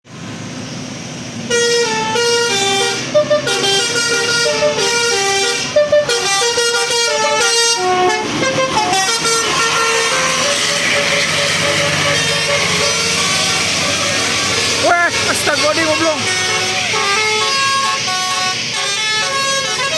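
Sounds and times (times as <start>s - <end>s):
multi-tone bus horn melody: 1.4s - 19.9s.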